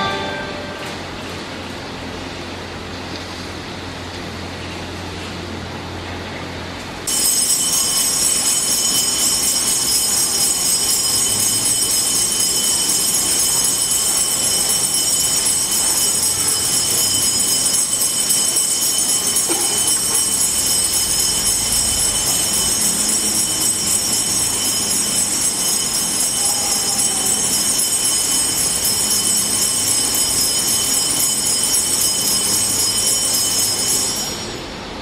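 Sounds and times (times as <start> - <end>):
handheld bells jingling: 0.0 - 1.3, 7.1 - 34.8.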